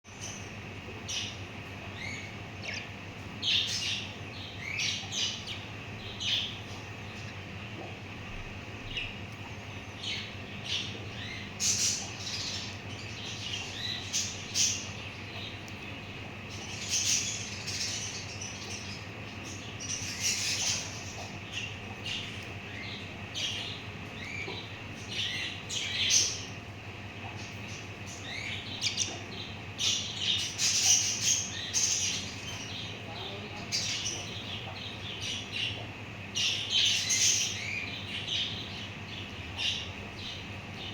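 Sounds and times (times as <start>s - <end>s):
faint steady hum: 0.1s - 40.9s
budgerigars chirping: 2.0s - 7.4s, 9.9s - 26.6s, 27.3s - 40.9s.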